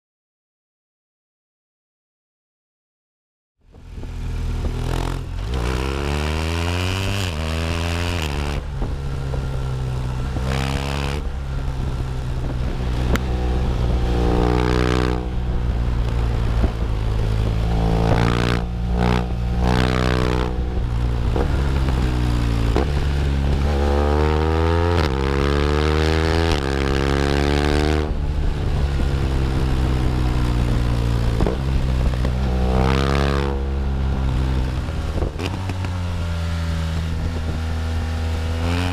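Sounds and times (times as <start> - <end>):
motorcycle engine revving: 3.7 - 38.9.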